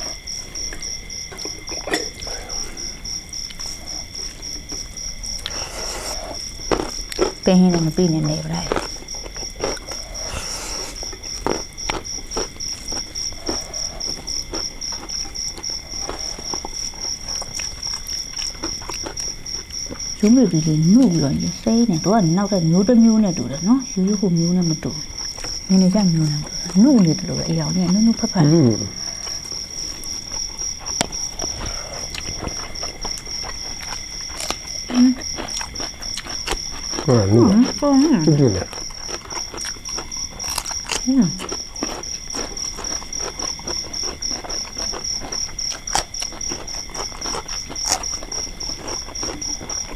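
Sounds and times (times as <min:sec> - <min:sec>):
close-up chewing: 0:00.0 - 0:21.5, 0:24.8 - 0:49.9
crickets chirping: 0:00.0 - 0:49.9
insects trilling: 0:00.0 - 0:49.9.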